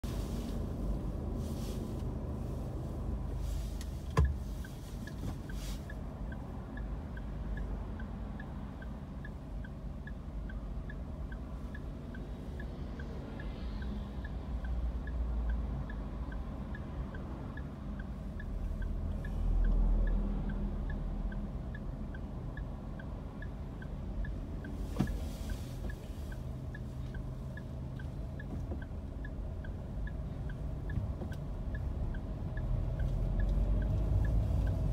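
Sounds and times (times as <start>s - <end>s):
car engine and traffic rumble: 0.0s - 34.9s
light regular ticking: 3.6s - 34.9s.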